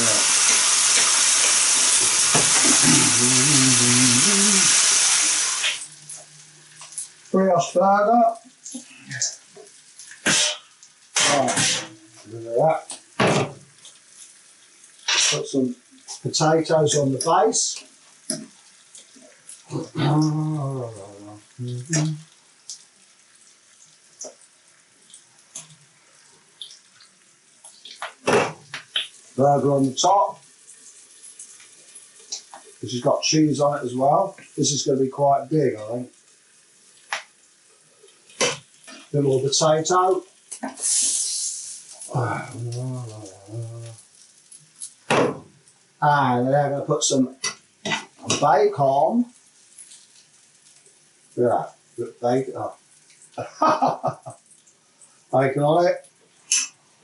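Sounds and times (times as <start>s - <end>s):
burger patties sizzling in pan: 0.0s - 57.0s
low steady hiss: 0.0s - 57.0s.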